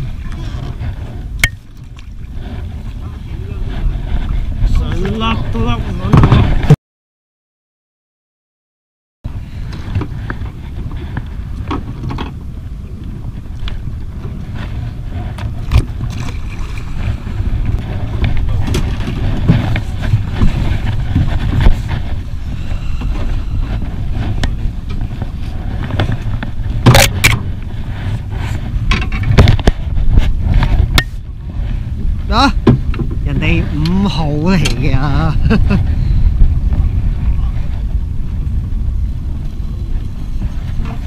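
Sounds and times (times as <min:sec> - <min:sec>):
wind and water rumble: 0:00.0 - 0:06.8, 0:09.2 - 0:41.0.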